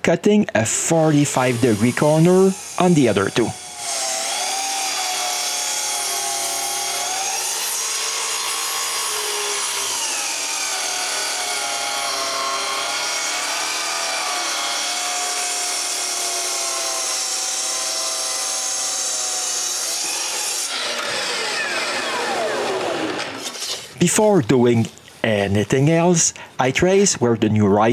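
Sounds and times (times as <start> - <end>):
power saw cutting wood: 0.7 - 24.3.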